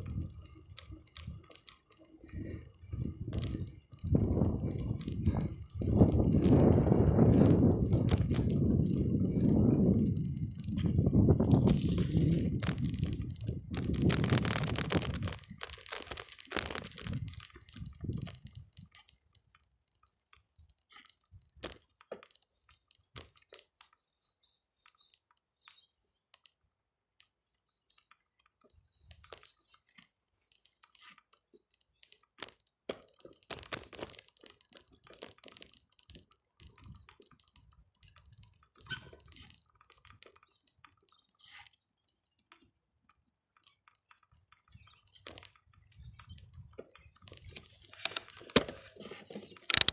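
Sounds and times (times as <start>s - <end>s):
bicycle rattling and clicking: 0.0s - 24.1s, 27.2s - 49.9s.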